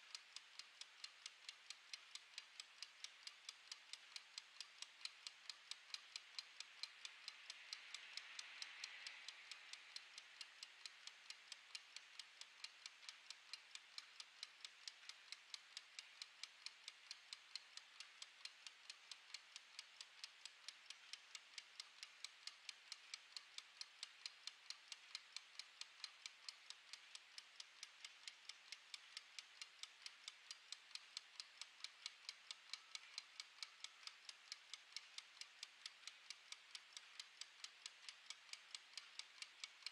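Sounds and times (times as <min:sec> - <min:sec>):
kitchen timer ticking: 0:00.0 - 0:39.9.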